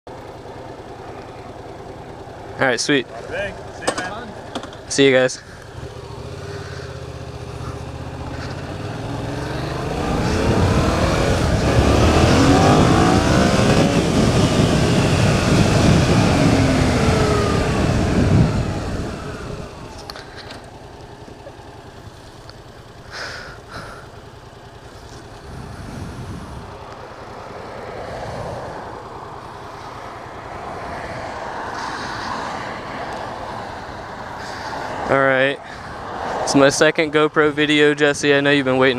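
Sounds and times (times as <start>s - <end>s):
motorcycle engine accelerating: 0.1s - 38.9s.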